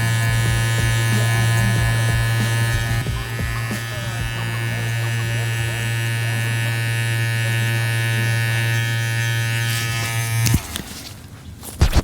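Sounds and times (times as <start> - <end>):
hair clipper buzzing: 0.0 - 11.0, 11.8 - 12.0.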